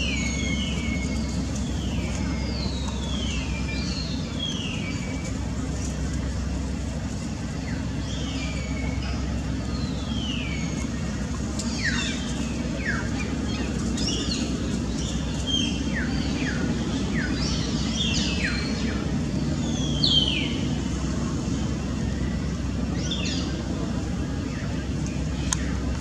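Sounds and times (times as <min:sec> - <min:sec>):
birds chirping: 0:00.0 - 0:26.0
steady low rumble: 0:00.0 - 0:26.0.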